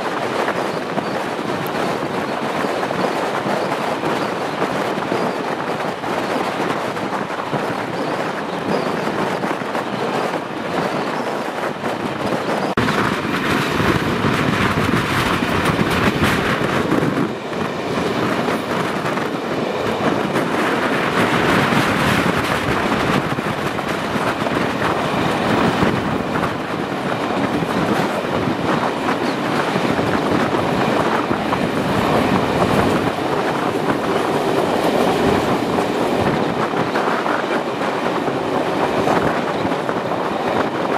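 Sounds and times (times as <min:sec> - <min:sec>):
steam train rolling rush: 0:00.0 - 0:40.9.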